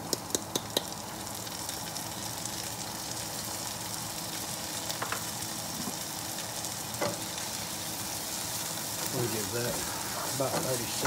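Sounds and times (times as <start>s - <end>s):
onions sizzling in frying pan: 0.0s - 11.0s.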